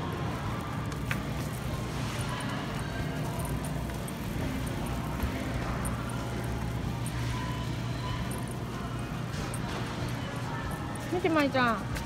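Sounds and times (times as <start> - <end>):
cart clicking and rattling: 0.0 - 12.0
low store hum: 0.0 - 12.0
shopping cart wheels rumbling: 0.0 - 12.0.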